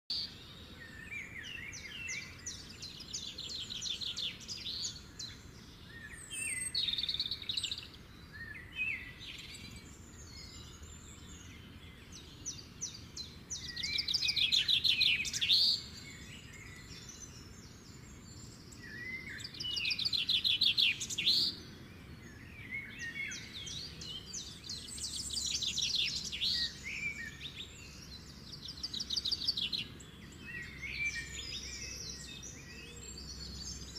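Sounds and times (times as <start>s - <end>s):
small songbirds singing: 0.1s - 33.9s.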